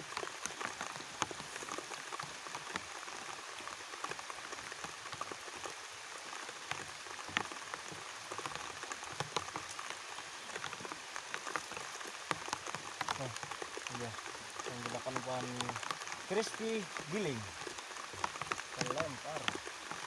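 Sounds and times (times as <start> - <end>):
rain falling: 0.0 - 20.0
raindrops pattering: 0.0 - 20.0.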